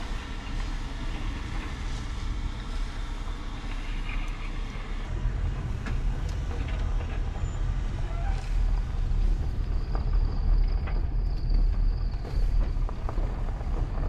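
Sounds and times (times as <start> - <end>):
car rumbling over dirt track: 0.0 - 14.0.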